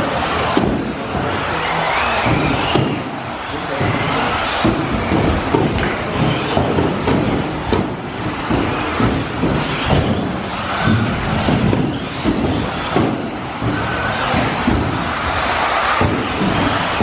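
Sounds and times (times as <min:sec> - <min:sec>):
rc cars clattering on track: 0:00.0 - 0:17.0
rc cars running: 0:00.0 - 0:17.0.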